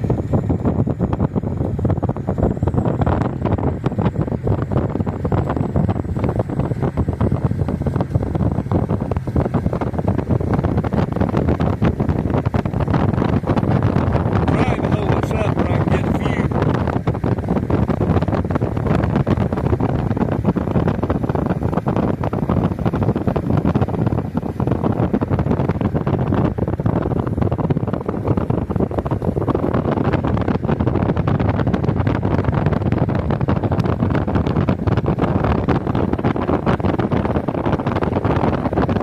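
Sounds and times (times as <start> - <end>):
vehicle road noise: 0.0 - 39.0
wind buffeting microphone: 0.0 - 39.0.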